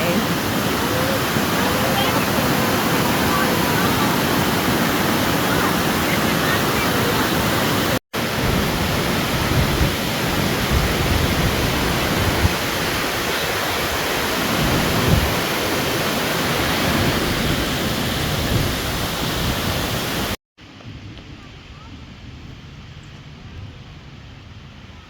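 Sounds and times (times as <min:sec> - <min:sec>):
waterfall rushing: 0:00.0 - 0:20.4.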